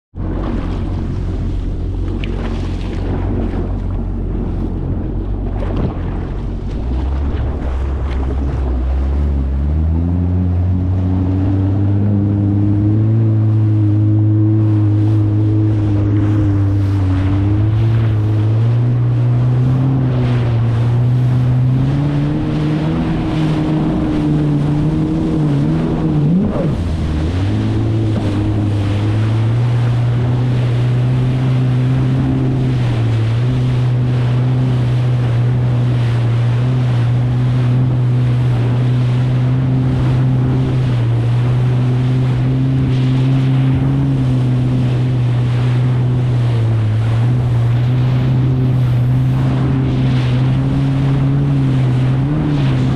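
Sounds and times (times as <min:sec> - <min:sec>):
jet ski engine running: 0:00.1 - 0:52.9
water and wind rush: 0:00.1 - 0:52.9.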